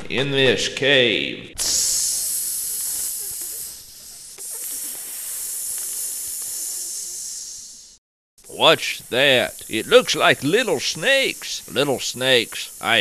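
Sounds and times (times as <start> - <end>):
snake hissing: 1.6 - 13.0.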